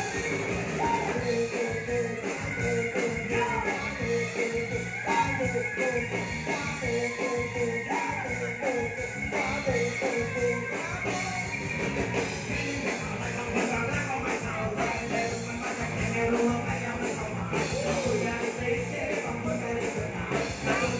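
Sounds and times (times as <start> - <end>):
person singing: 0.0 - 11.6, 12.2 - 20.9
drums: 0.0 - 20.9
electric guitar: 0.0 - 20.9.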